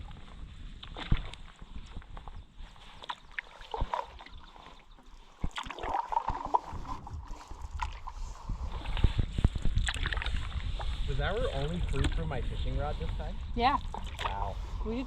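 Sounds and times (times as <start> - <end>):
paddle strokes in water: 0.0 - 15.0
water gurgling and sloshing: 0.0 - 15.0.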